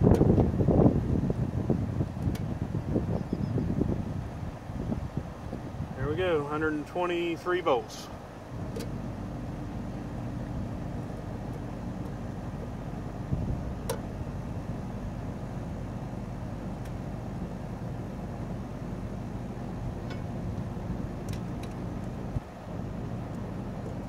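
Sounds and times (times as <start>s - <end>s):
air conditioner unit humming: 0.0s - 24.0s.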